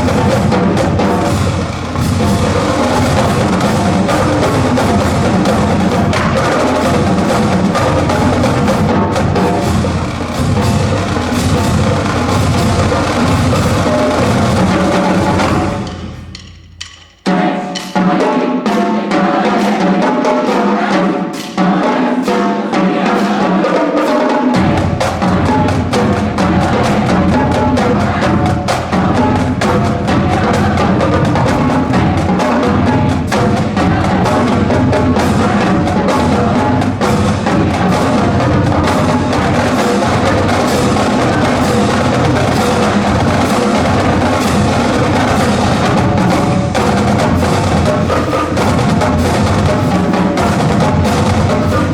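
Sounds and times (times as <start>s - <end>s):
bass drums: 0.0s - 17.2s, 24.6s - 51.9s
snare drums: 0.0s - 51.9s.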